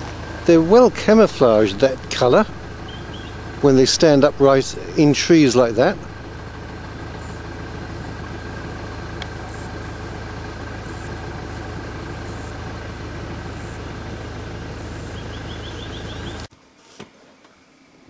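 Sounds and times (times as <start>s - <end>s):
van engine idling: 0.0s - 16.5s
birds or insects chirping: 0.0s - 18.0s.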